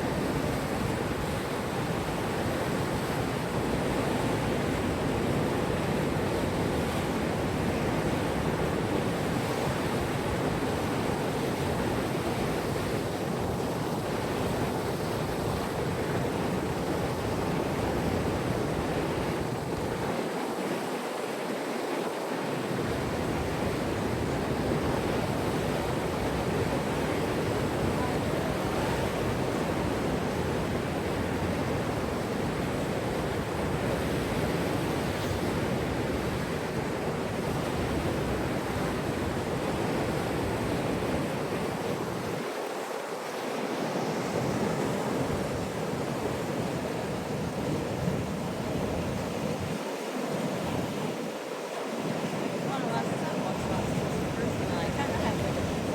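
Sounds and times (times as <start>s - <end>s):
moving water: 0.0s - 55.9s.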